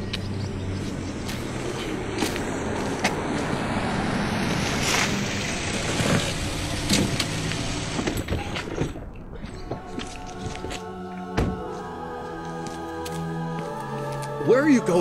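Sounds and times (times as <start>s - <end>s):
car engine and tyre hum: 0.0s - 15.0s.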